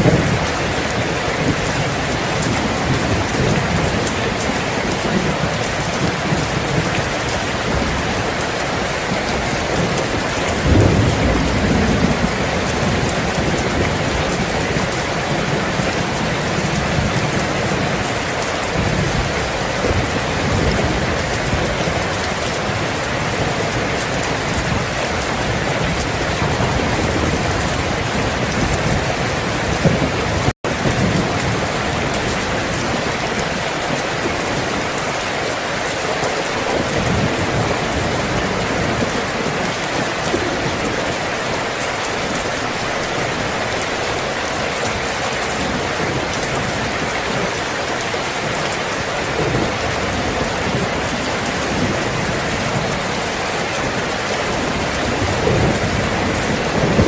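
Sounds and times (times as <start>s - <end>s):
low rolling thunder: 0.0s - 35.3s, 36.2s - 41.6s, 48.4s - 57.0s
heavy rain falling: 0.0s - 57.0s.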